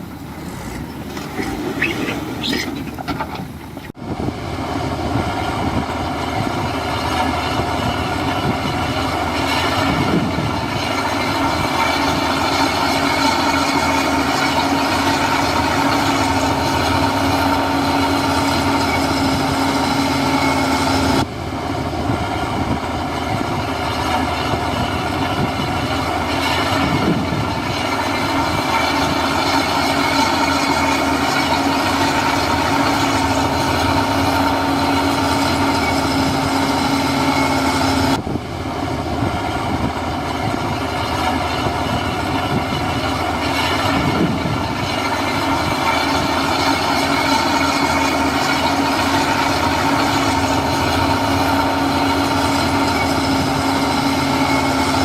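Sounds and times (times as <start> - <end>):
diesel machinery running: 0.0 - 55.0
steady whine: 0.0 - 55.0.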